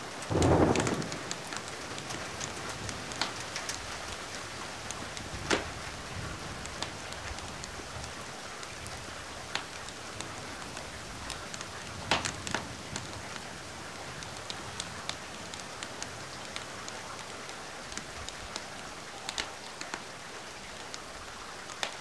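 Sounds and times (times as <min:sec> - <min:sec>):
wood fire popping and crackling: 0:00.0 - 0:13.4, 0:14.1 - 0:20.1
steady rain: 0:00.0 - 0:22.0.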